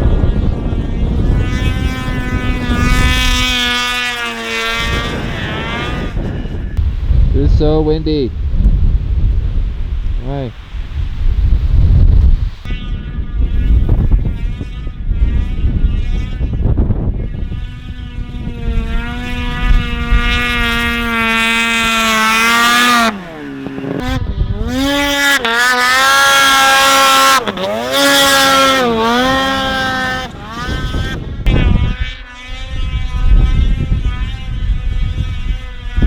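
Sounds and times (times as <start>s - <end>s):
snowmobile engine revving: 0.0s - 36.0s
wind buffeting microphone: 0.0s - 36.0s.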